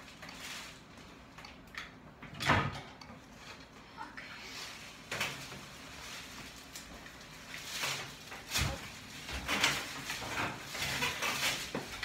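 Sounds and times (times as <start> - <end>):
rustling and shuffling: 0.0 - 1.4, 3.2 - 12.0.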